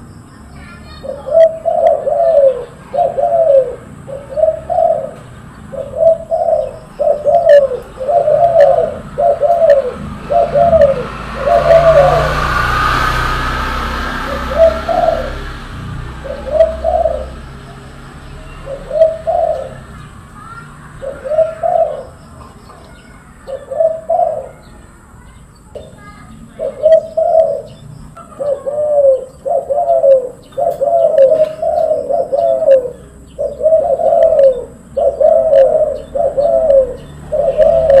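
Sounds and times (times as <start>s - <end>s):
dove cooing: 0.9s - 25.0s, 25.8s - 38.0s.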